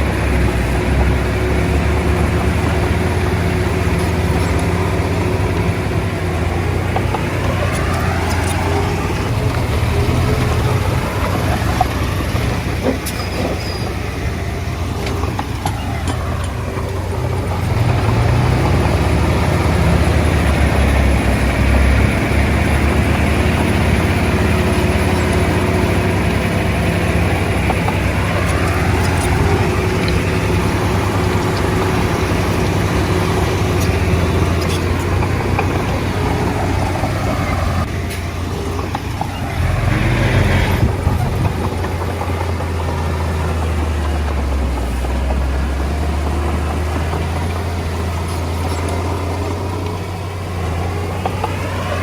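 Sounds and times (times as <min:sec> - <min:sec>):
bulldozer diesel engine: 0:00.0 - 0:52.0.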